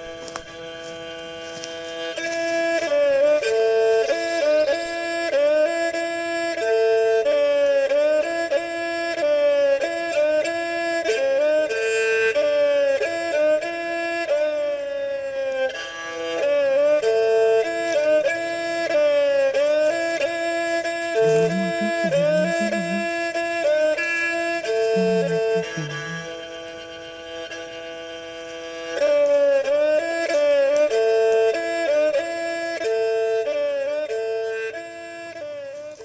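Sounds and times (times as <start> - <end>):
bowed string instrument melody: 0.0 - 36.0.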